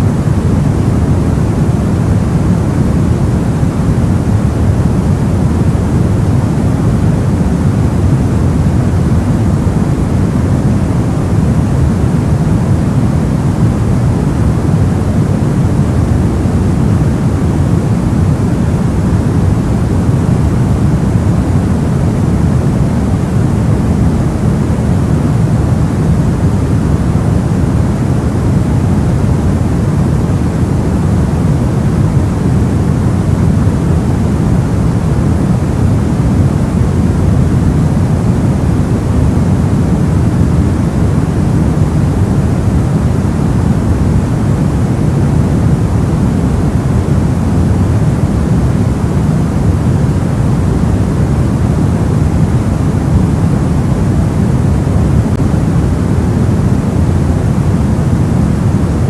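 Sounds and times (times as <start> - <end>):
deep white noise hiss: 0.0 - 59.0.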